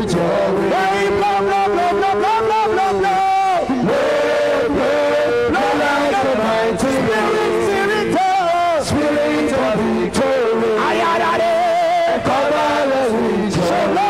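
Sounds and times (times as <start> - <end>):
man singing worship song: 0.0 - 14.0.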